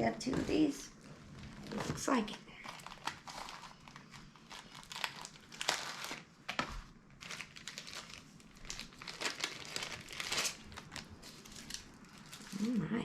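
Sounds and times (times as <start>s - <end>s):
packaging crinkling and rustling: 0.2s - 12.9s.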